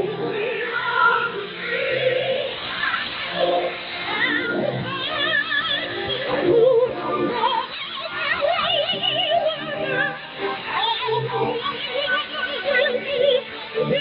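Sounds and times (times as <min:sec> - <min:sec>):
singing over shortwave radio: 0:00.0 - 0:14.0.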